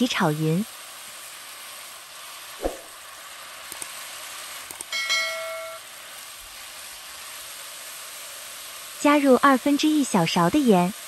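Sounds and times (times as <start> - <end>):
potato sizzling in oil: 0.0 - 11.0.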